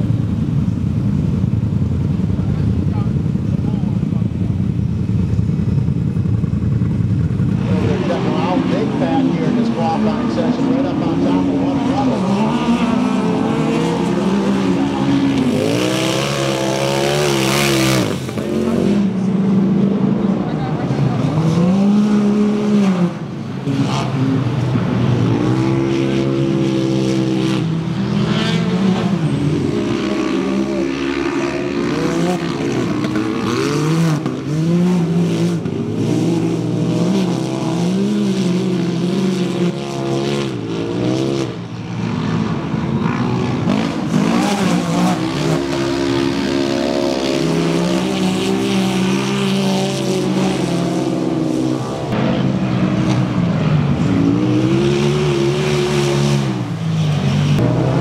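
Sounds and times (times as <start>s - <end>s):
utv engines revving: 0.0s - 58.0s.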